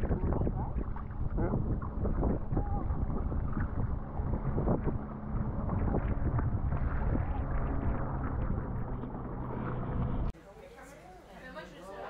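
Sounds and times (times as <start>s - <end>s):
paddle strokes splashing: 0.0s - 10.3s
wind buffeting the microphone: 0.0s - 10.3s.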